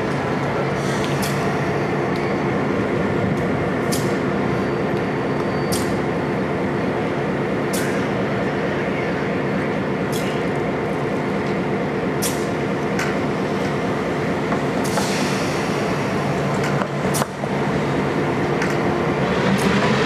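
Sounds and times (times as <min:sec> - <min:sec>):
diesel locomotive idling: 0:00.0 - 0:19.8.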